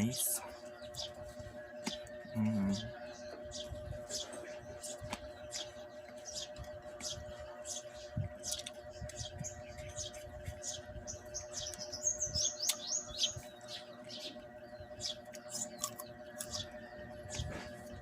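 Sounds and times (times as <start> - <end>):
small birds chirping: 0.0 - 18.0
steady hum: 0.0 - 18.0.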